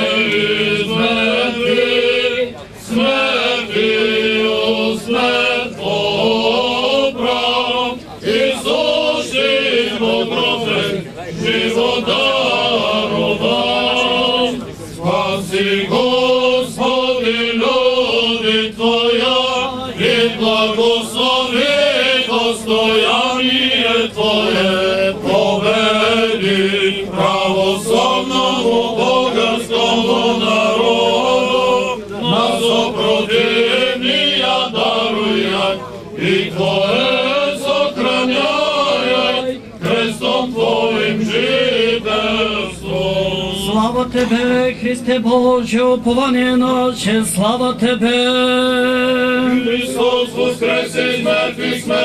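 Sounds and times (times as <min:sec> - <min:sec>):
men chanting together: 0:00.0 - 0:52.0.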